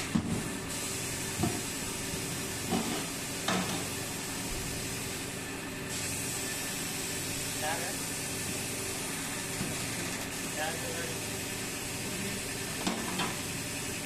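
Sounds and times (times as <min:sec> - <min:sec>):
tyre changer air hiss: 0:00.0 - 0:14.0.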